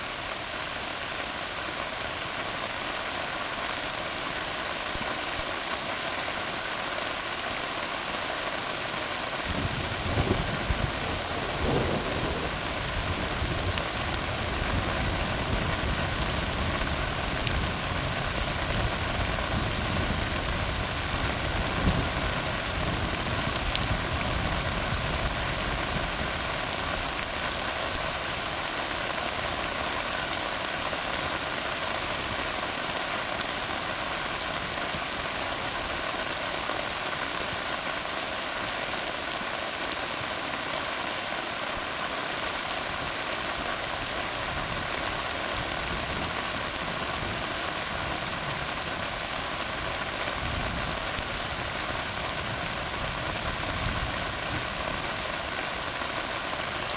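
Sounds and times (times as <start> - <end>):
rain falling on a road: 0.0 - 56.9.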